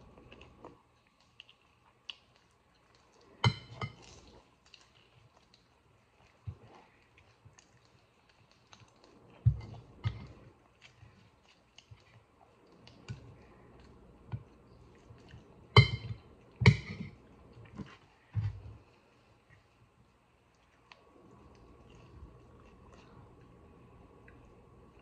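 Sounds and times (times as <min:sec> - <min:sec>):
soft chewing: 0:00.0 - 0:25.0.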